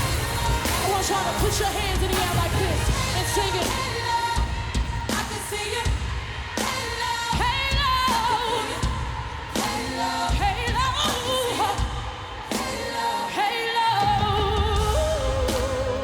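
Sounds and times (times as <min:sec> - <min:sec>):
band with drums and bass: 0:00.0 - 0:13.0, 0:14.0 - 0:16.0
singer's wordless vocal runs: 0:00.0 - 0:16.0.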